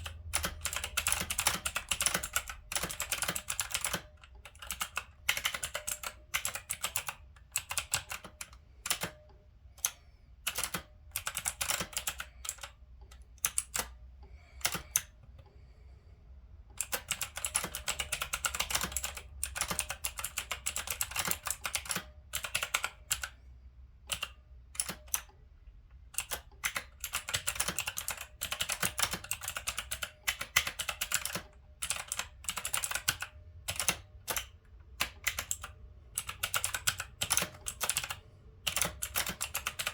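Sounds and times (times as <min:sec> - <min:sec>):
mechanical keyboard typing: 0:00.0 - 0:14.0, 0:14.6 - 0:15.2, 0:16.8 - 0:23.4, 0:24.0 - 0:25.4, 0:26.0 - 0:39.9.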